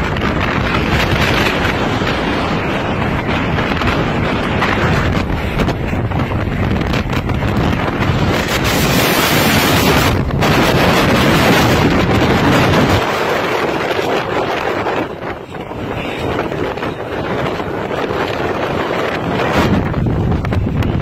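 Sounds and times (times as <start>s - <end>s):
wind gusting against microphone: 0.0s - 21.0s.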